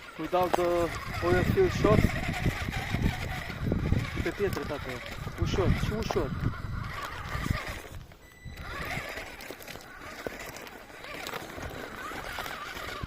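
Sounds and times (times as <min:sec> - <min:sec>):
small electric motor running: 0:00.0 - 0:13.0.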